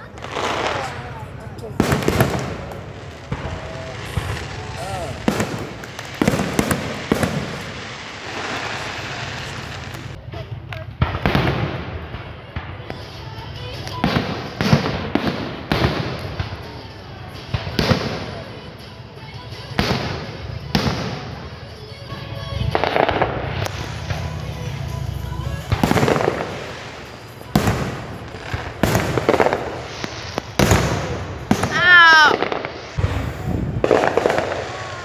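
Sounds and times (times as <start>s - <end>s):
fireworks banging: 0.0s - 35.0s.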